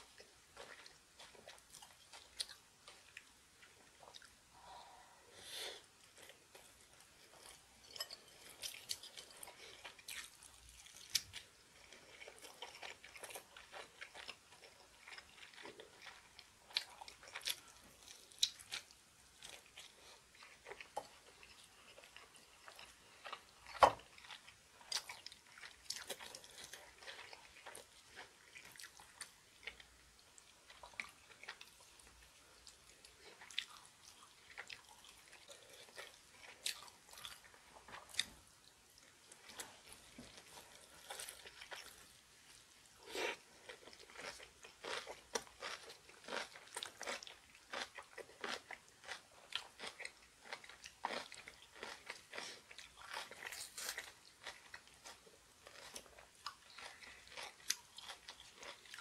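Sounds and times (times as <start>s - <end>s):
person chewing crunchy food: 0.0s - 5.2s, 5.8s - 59.0s.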